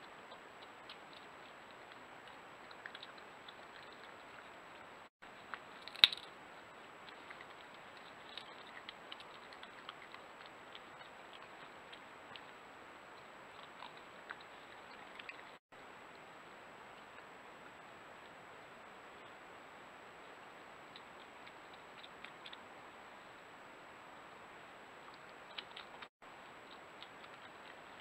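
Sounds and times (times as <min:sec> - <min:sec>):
badgers chewing and rooting: 0:00.0 - 0:16.2, 0:20.2 - 0:23.6, 0:24.2 - 0:28.0
steady background hiss: 0:00.0 - 0:28.0.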